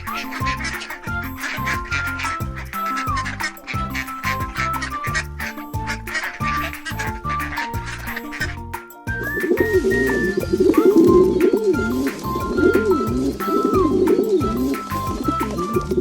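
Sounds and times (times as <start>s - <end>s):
background music with steady beat: 0.0s - 16.0s
pigeons cooing: 0.0s - 16.0s.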